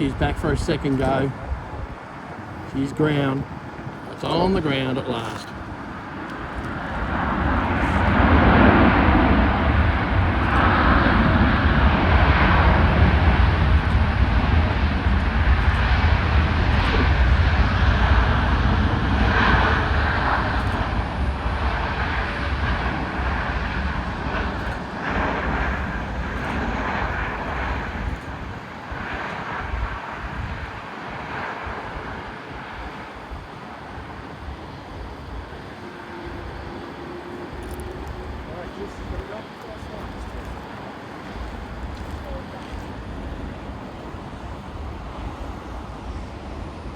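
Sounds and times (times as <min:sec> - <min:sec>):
jet airliner engines rumbling: 0:00.0 - 0:46.9.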